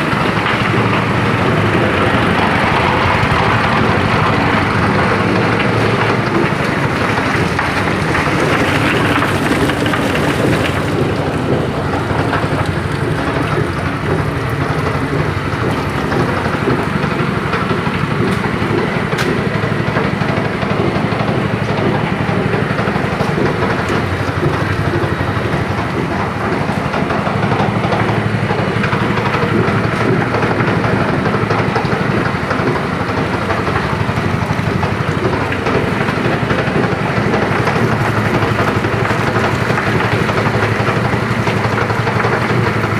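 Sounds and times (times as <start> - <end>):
feather plucker machine running: 0.0 - 42.9.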